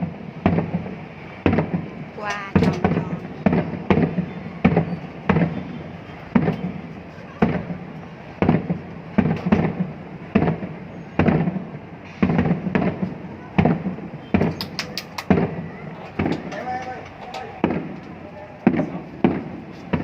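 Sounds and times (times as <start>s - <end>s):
fireworks booming: 0.0s - 20.0s
sharp firework cracks: 0.0s - 20.0s.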